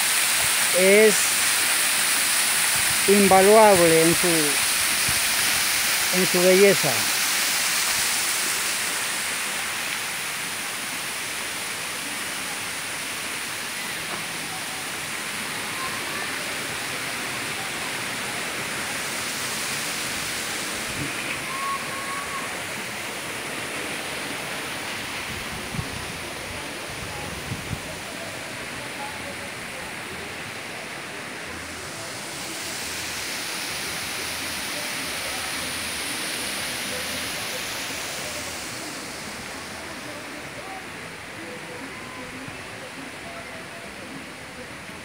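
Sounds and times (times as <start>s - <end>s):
waterfall pouring onto rocks: 0.0s - 43.1s.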